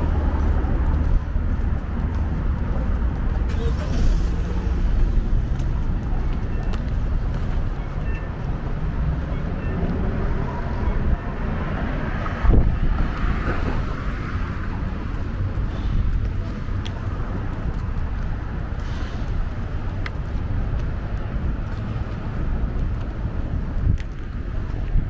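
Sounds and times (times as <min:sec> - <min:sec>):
traffic passing: 0:00.0 - 0:25.0.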